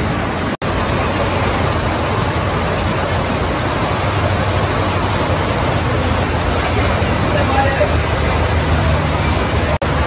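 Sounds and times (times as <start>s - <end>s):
water running down slides: 0.0s - 10.0s
water splashing into pools: 0.0s - 10.0s.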